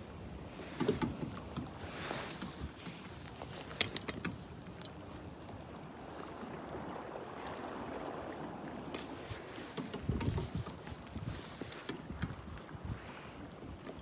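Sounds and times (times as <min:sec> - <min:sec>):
water lapping: 0:00.0 - 0:14.0
wind: 0:00.0 - 0:14.0.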